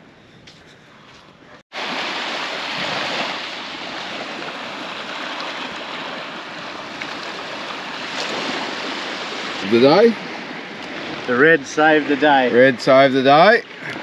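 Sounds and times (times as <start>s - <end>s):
rushing water: 1.7s - 14.0s.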